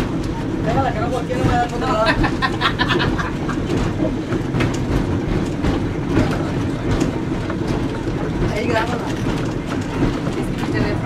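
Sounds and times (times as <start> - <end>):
streetcar rumbling on track: 0.0 - 11.0.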